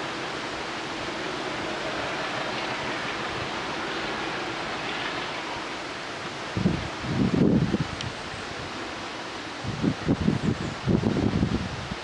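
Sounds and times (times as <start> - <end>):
diesel locomotive engine: 0.0 - 12.0.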